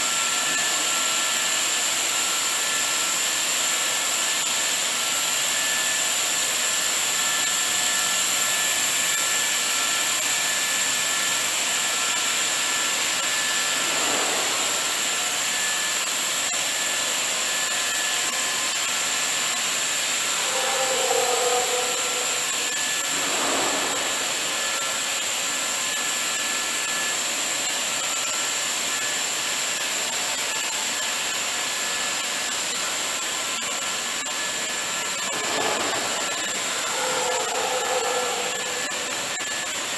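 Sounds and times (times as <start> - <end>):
machine hissing with high whine: 0.0 - 39.9.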